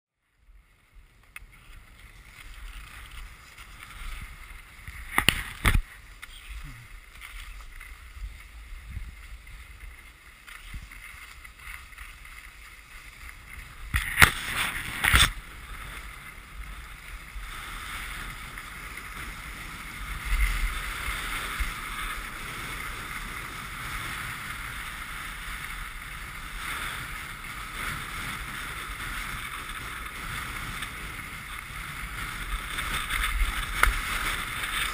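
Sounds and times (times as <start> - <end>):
skis scraping over packed snow: 0.1 - 34.9
wind on microphone: 1.0 - 34.9.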